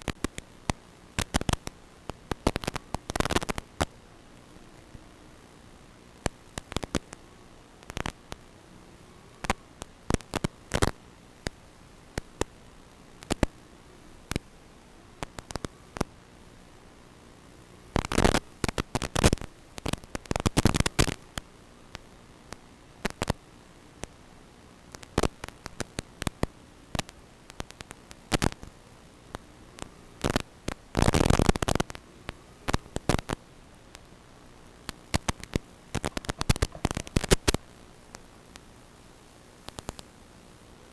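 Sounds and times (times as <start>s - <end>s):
crackling static hiss: 0.0s - 40.9s.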